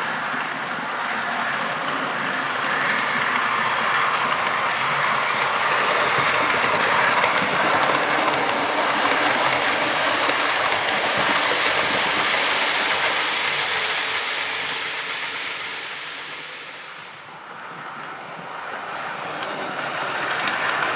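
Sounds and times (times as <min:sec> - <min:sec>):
model train running on rails: 0:00.0 - 0:20.9.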